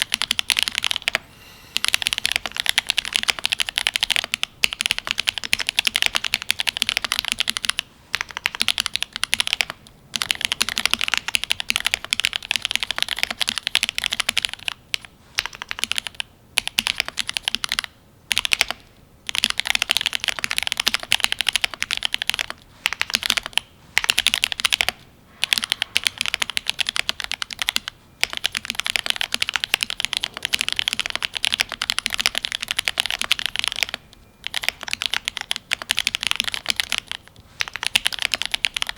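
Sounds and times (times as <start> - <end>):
fast typing on mechanical keyboard: 0.0 - 1.2, 1.8 - 38.9.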